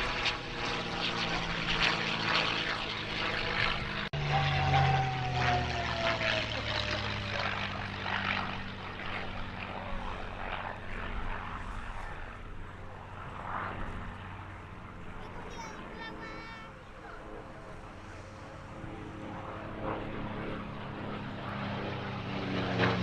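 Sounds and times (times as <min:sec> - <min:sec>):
propeller aircraft flying past: 0:00.0 - 0:23.0.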